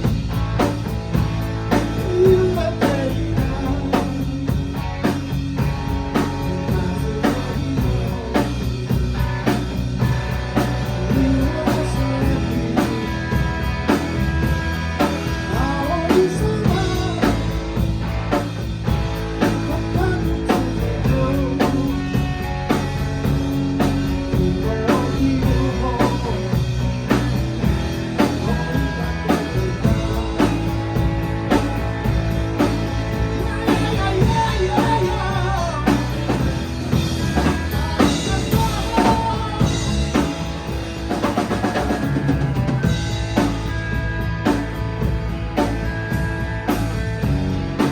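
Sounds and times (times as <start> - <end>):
bass: 0.0 - 47.9
drum kit beat: 0.0 - 47.9
electric guitar: 0.0 - 47.9.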